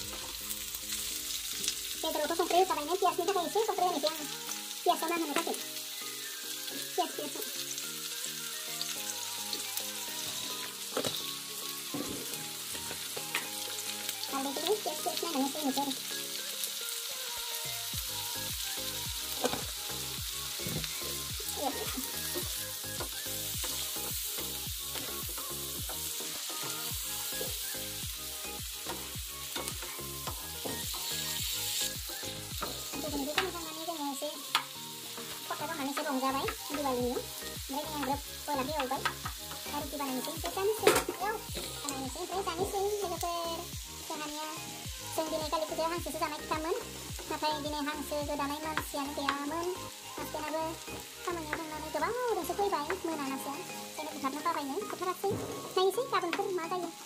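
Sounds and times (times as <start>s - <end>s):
food sizzling in oil: 0.0s - 57.0s.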